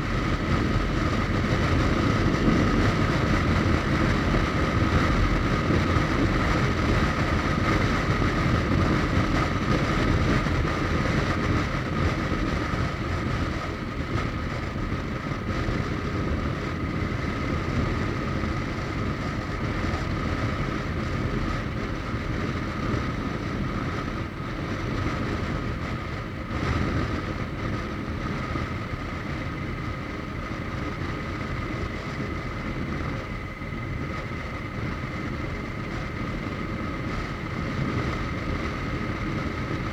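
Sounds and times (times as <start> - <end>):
steady high whine: 0.0 - 39.9
wind rushing over microphone: 0.0 - 39.9.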